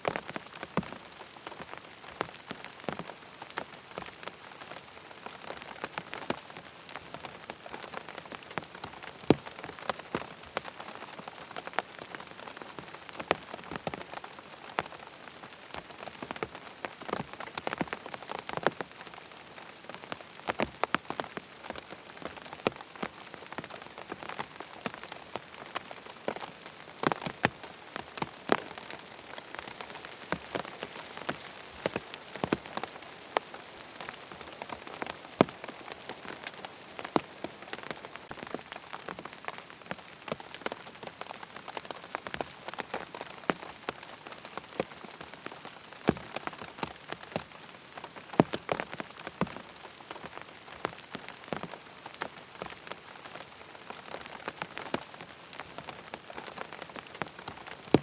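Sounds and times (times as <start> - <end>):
raindrops ticking on hard surface: 0.0 - 58.0
steady rain hiss: 0.0 - 58.0.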